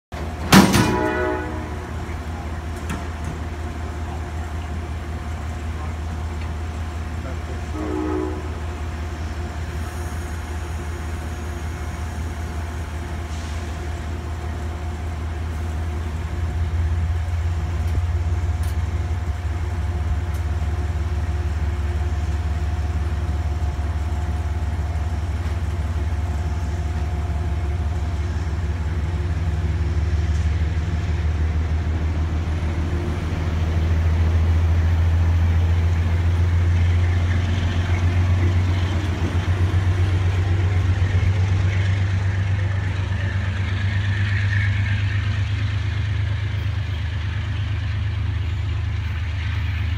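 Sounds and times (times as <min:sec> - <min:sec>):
train wheels rumbling on rail: 0:00.1 - 0:49.9.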